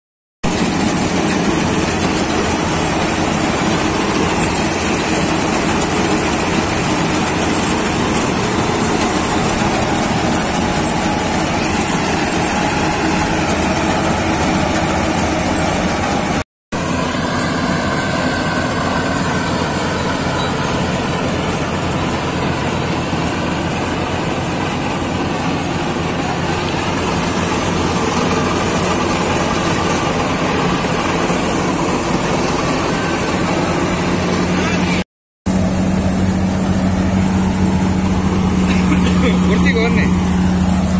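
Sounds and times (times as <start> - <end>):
combine harvester running: 0.4 - 40.9.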